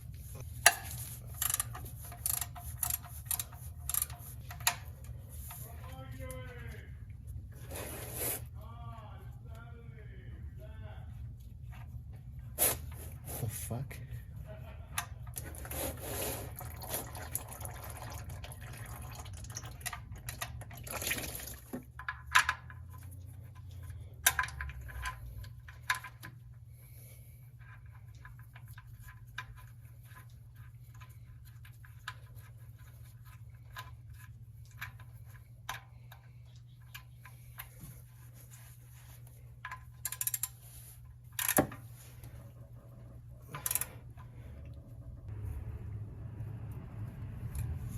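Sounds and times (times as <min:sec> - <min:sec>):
steady low hum: 0:00.0 - 0:16.8, 0:22.0 - 0:47.9.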